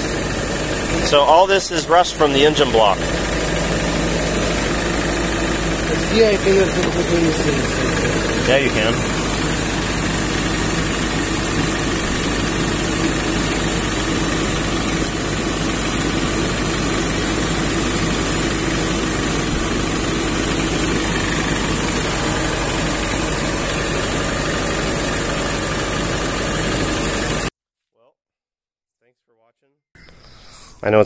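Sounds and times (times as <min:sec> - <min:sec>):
car engine idling: 0:00.0 - 0:27.5.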